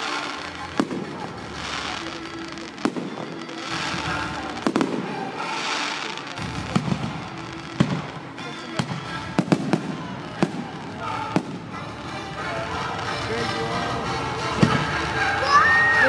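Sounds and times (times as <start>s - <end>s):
fireworks bangs: 0.0s - 16.0s
fireworks hissing and crackling: 0.0s - 16.0s.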